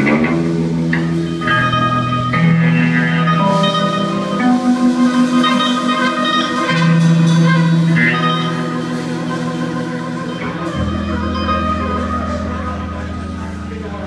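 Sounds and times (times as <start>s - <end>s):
surf rock band playing: 0.0s - 14.0s.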